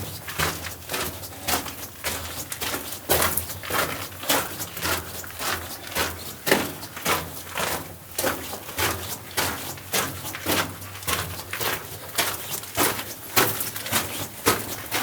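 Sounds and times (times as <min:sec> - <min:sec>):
footsteps on tunnel floor: 0:00.0 - 0:15.0.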